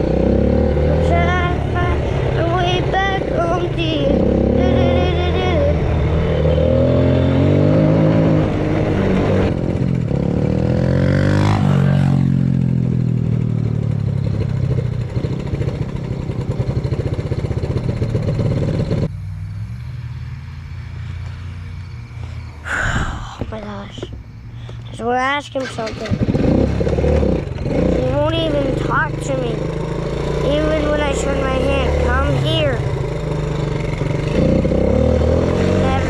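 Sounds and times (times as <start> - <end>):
small off-road engine revving: 0.0 - 22.5, 24.4 - 36.0.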